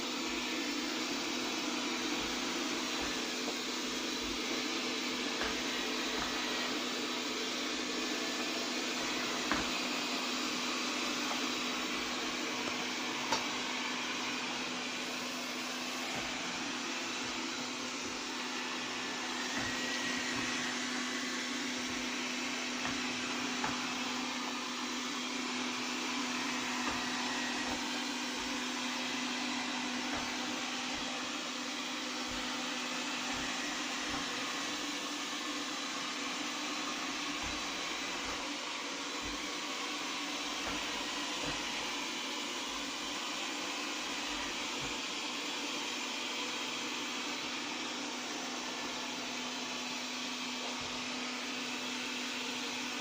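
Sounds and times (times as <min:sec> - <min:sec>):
robot vacuum hissing and humming: 0:00.0 - 0:53.0.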